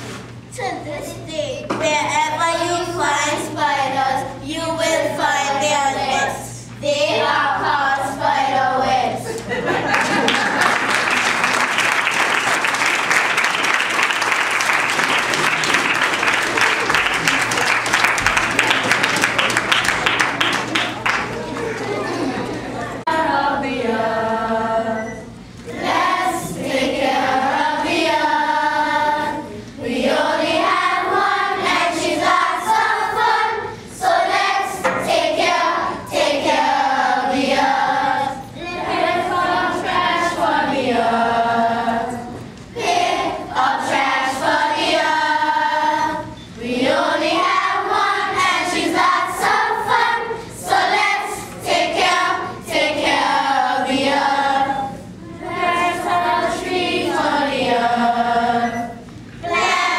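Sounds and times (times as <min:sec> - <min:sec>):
children's choir singing: 0:02.4 - 0:59.9.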